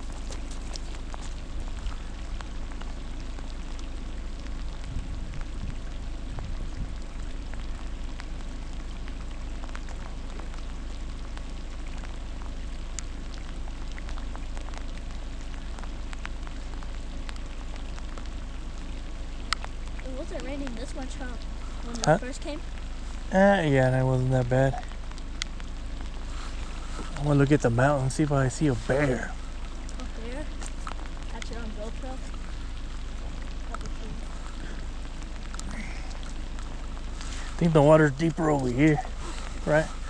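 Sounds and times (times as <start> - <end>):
rain falling on lake water: 0.0 - 40.0
raindrops ticking close by: 0.0 - 40.0.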